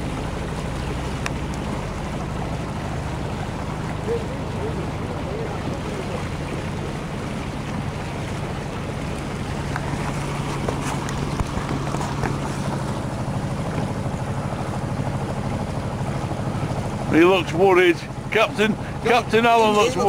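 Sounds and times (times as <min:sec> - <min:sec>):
boat engine running: 0:00.0 - 0:20.0
water wash: 0:00.0 - 0:20.0.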